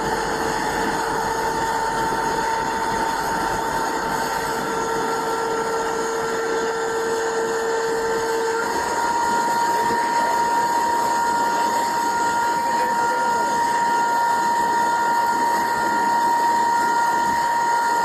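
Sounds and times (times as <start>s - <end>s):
machine whine: 0.0s - 18.0s.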